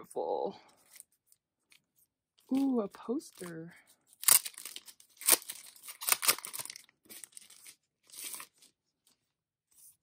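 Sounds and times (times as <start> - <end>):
paper poster rustling and crinkling: 0.7 - 10.0.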